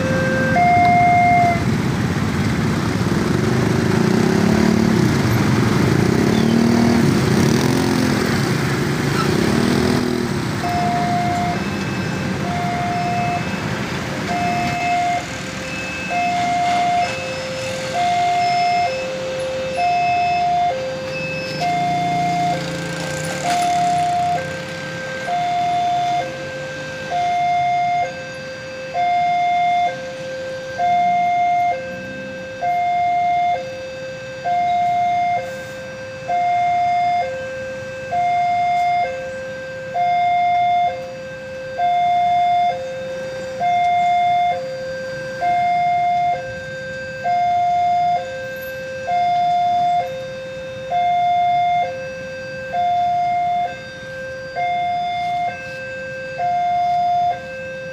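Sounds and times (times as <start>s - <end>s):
two-tone level crossing alarm: 0.0s - 1.7s, 10.5s - 57.9s.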